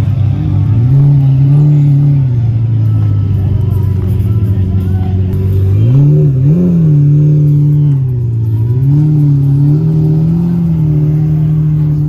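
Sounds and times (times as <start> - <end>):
car engine moving off: 0.0 - 12.0.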